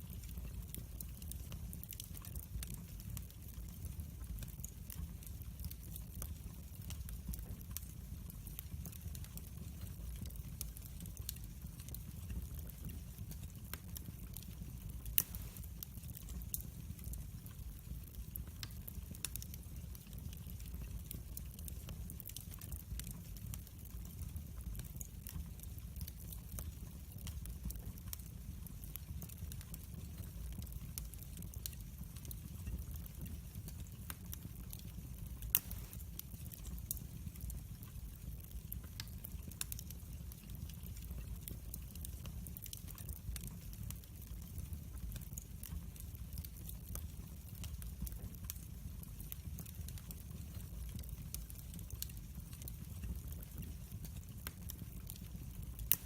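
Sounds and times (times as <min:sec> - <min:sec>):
log fire crackling and popping: 0:00.0 - 0:56.0
low rumble of flames: 0:00.0 - 0:56.0.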